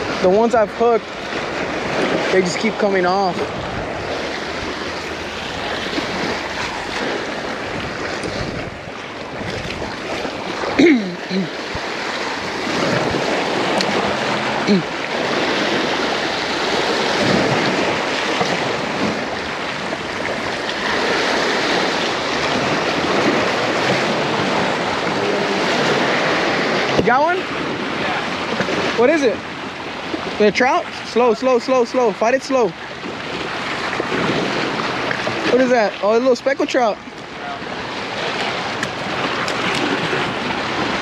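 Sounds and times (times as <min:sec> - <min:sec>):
wind on microphone: 0:00.0 - 0:31.4, 0:32.6 - 0:41.0
ocean surf washing in: 0:00.0 - 0:41.0.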